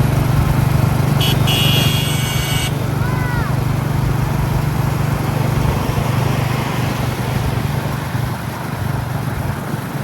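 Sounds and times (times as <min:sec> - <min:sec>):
road noise: 0:00.0 - 0:10.0
wind: 0:00.0 - 0:10.0.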